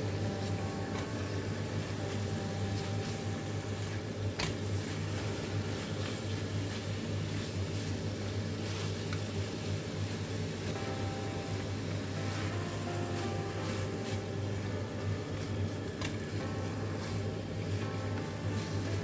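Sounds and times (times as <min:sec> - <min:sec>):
low hum: 0:00.0 - 0:08.5, 0:10.6 - 0:19.0.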